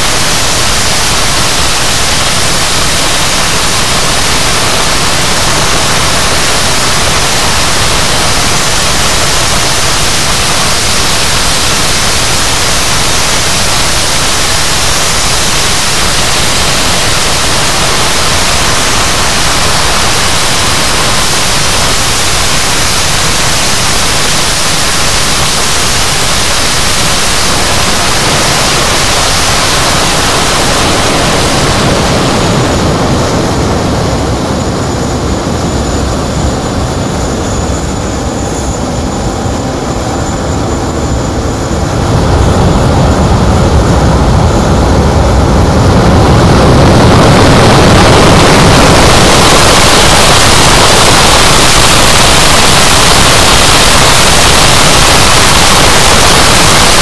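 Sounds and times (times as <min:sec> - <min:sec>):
jet engine afterburner roar: 0:00.0 - 0:57.0.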